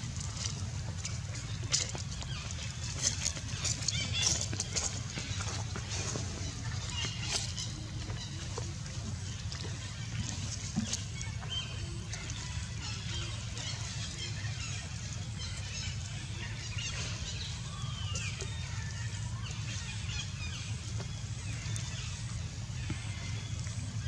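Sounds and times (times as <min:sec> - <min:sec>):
water sloshing: 0:00.0 - 0:24.0.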